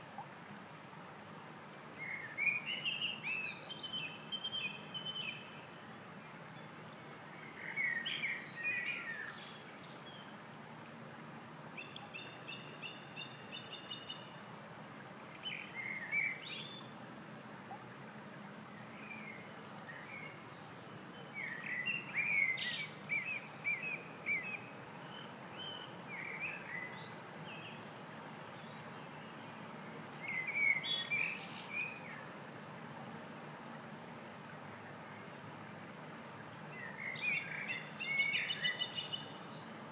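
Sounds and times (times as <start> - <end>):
stream running over stones: 0.0 - 39.9
songbirds singing: 0.9 - 39.9.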